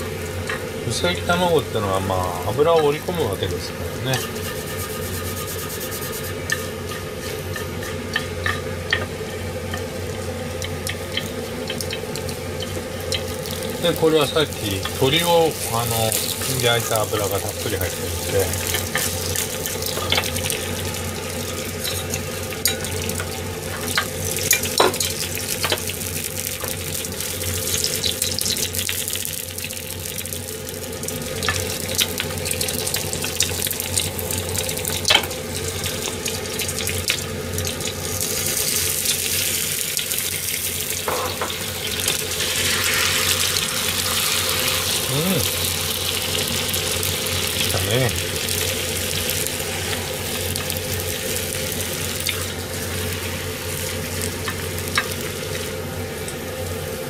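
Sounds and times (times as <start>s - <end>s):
egg sizzling in a pan: 0.0s - 57.0s.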